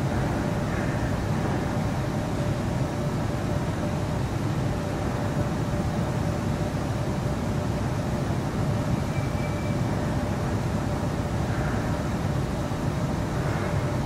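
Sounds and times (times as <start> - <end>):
faint steady tone: 0.0 - 14.0
machinery rumble and hum: 0.0 - 14.0.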